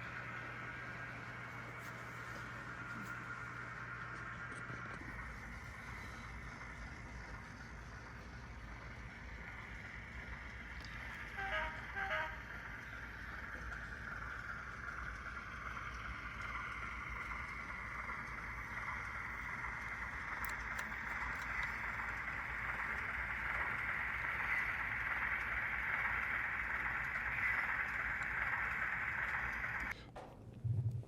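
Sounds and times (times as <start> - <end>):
diesel engine sound from small speaker: 0.0 - 30.0
model train motor and wheel noise: 0.0 - 30.1.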